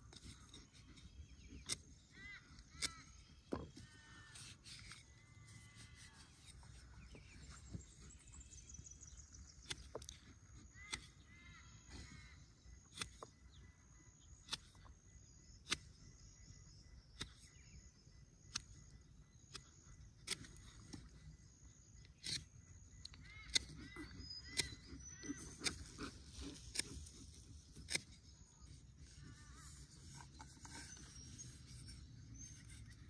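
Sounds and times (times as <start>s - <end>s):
bird calls: 0.0s - 33.0s.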